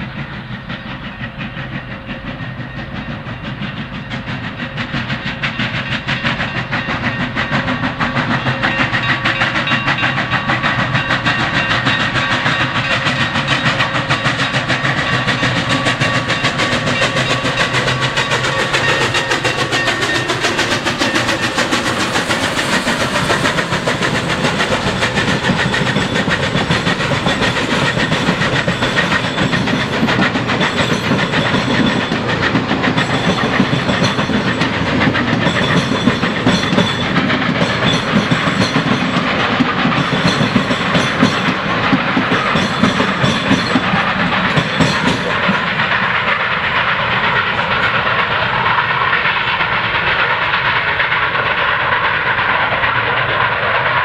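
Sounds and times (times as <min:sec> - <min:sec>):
passenger cars rolling on rails: 0:00.0 - 0:54.0
steam locomotive exhaust beats: 0:00.0 - 0:54.0.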